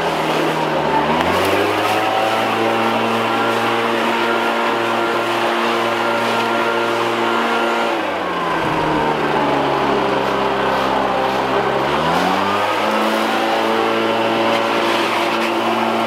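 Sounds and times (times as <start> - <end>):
leaf blower engine running: 0.0 - 16.0.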